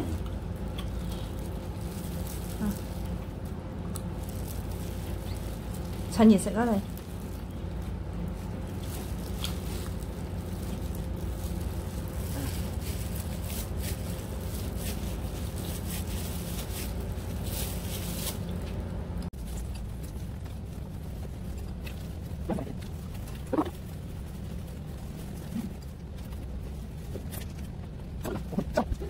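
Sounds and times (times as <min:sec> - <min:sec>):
low hum: 0:00.0 - 0:29.0
plastic glove crinkling: 0:00.0 - 0:29.0.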